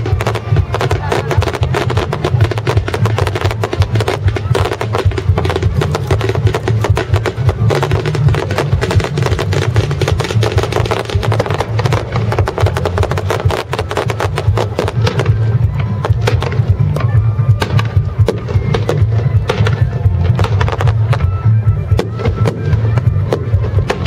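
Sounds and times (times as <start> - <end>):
firework bangs and crackles: 0.0 - 24.0
show music over loudspeakers: 0.0 - 24.0.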